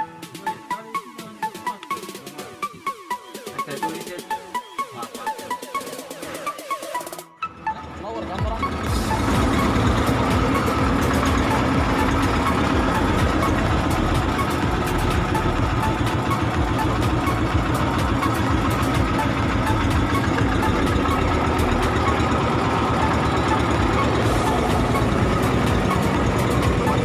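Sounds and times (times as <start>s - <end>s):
boat engine droning: 2.6s - 27.0s.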